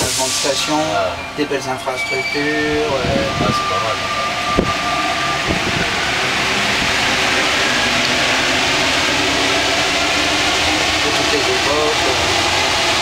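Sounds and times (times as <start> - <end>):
train running through tunnel: 0.0 - 13.0.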